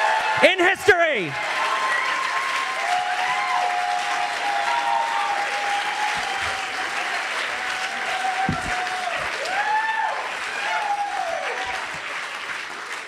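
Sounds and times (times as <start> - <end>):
audience applauding: 0.0 - 13.0
people cheering: 0.0 - 13.0.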